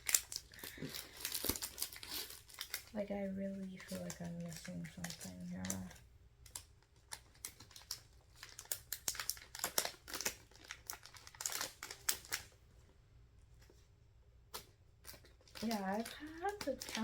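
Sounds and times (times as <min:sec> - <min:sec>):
small items tapping and clicking: 0:00.0 - 0:12.5, 0:14.5 - 0:17.0
packaging crinkling: 0:00.0 - 0:12.6, 0:14.5 - 0:17.0.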